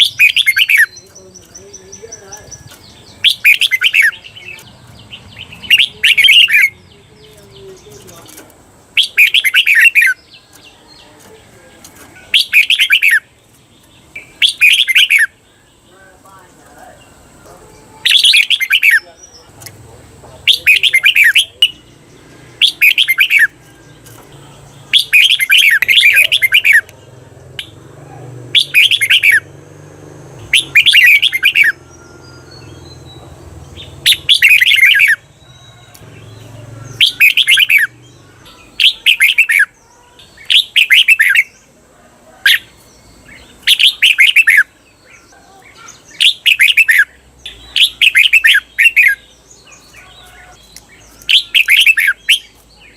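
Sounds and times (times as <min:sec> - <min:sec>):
bulbul singing warbling phrases: 0:00.0 - 0:52.9.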